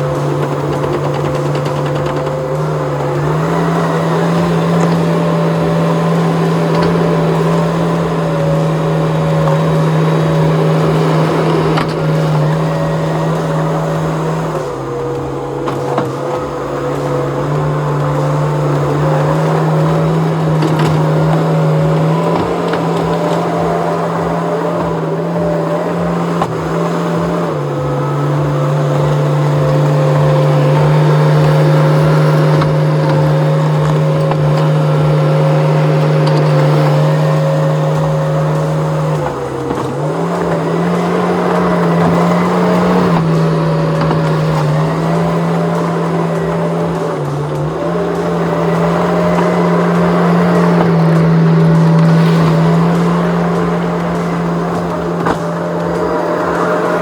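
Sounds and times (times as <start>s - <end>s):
skid steer engine whining: 0.0s - 57.0s.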